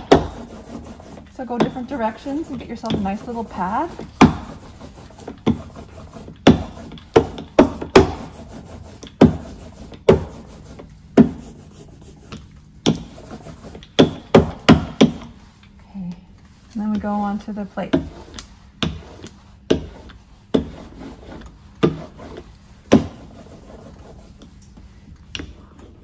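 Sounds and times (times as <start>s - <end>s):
hand roller rolling through tacky ink: 0.0s - 15.4s, 18.0s - 24.4s.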